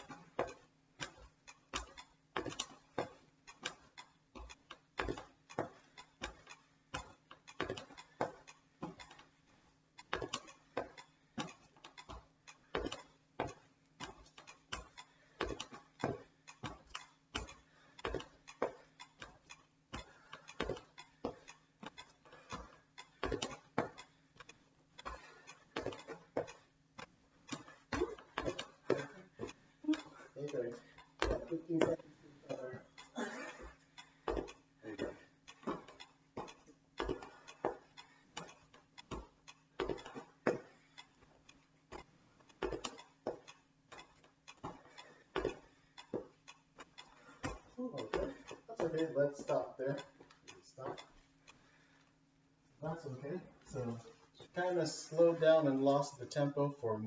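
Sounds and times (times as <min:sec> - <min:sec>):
metronome ticking: 0:00.0 - 0:57.0.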